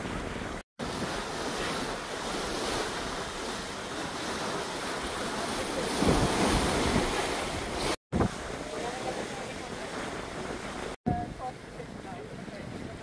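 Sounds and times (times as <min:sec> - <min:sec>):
water rushing around ship: 0:00.0 - 0:13.0
wind buffeting microphone: 0:00.0 - 0:13.0.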